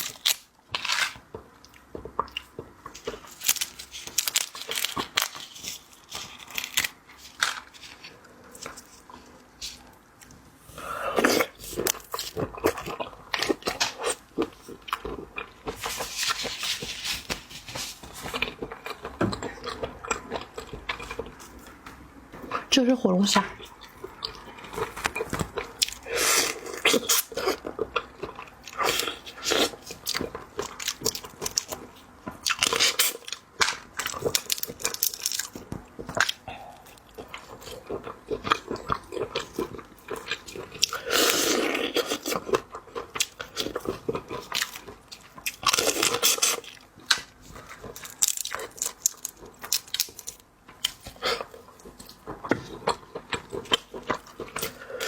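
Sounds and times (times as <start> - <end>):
crunching and chewing lobster: 0.0 - 55.0.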